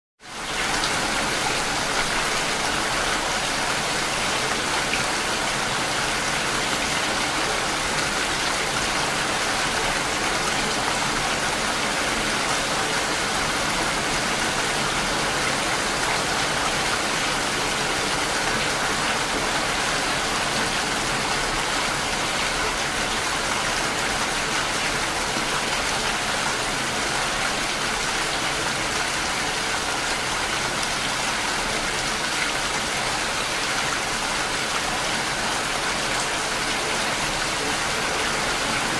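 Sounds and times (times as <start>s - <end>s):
steady rain falling: 0.2s - 38.9s.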